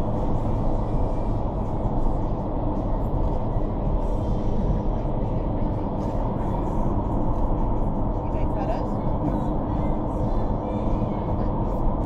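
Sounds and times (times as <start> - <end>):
wind tunnel air rushing: 0.0 - 12.0.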